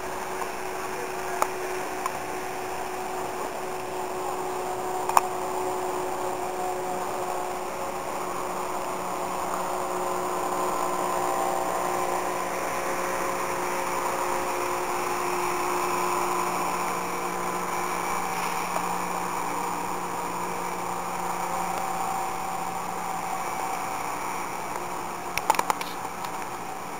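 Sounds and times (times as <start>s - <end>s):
mechanical drone: 0.0s - 26.9s.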